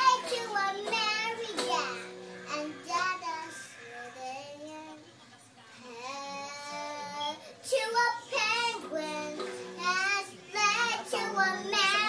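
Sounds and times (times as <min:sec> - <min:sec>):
small girl singing: 0:00.0 - 0:05.0, 0:05.8 - 0:12.0.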